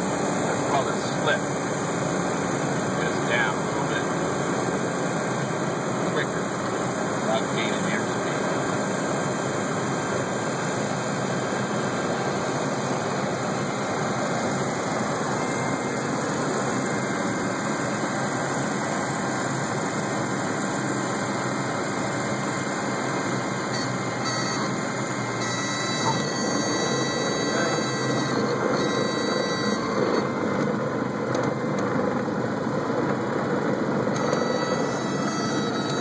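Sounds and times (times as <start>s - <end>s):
propeller airplane engine: 0.0s - 36.0s.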